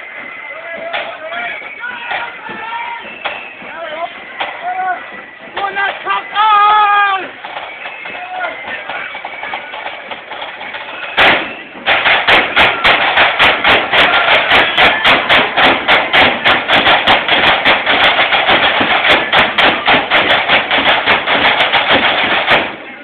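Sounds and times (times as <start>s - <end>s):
marching band drums beating: 0.0s - 23.0s.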